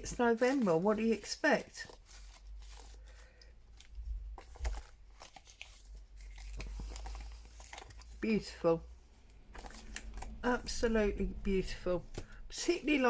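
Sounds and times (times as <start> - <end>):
paper and packaging rustling: 0.0 - 13.0.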